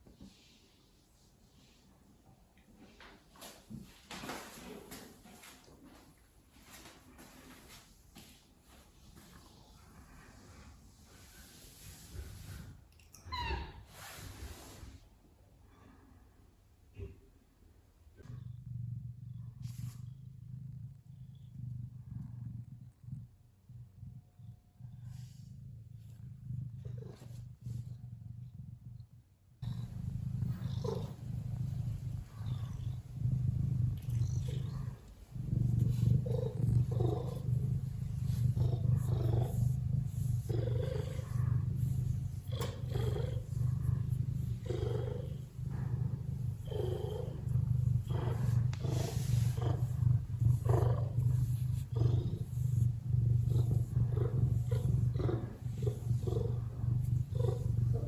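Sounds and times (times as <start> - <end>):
cat purring: 0.0 - 13.5, 16.9 - 58.0.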